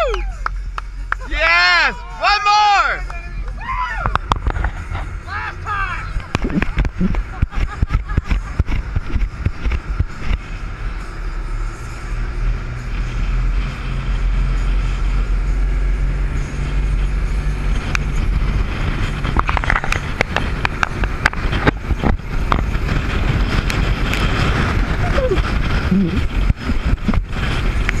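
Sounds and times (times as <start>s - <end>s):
rushing wind: 0.0s - 28.0s
speedboat engine drone: 0.0s - 28.0s
water noise: 0.0s - 28.0s.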